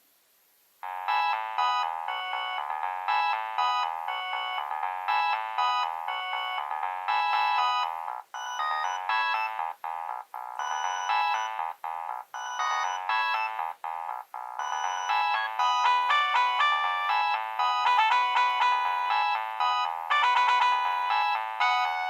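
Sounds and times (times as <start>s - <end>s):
polyphonic phone ringtone: 0.8s - 22.0s.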